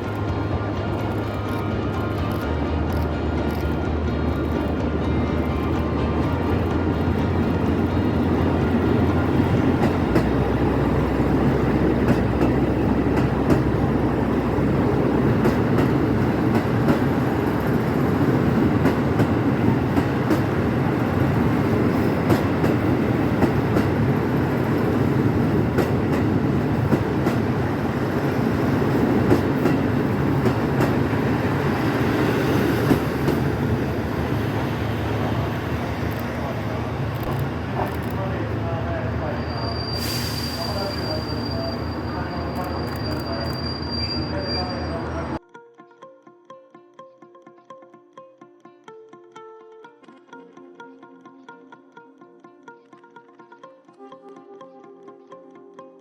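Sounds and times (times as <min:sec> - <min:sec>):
train engine and wheels rumbling: 0:00.0 - 0:45.4.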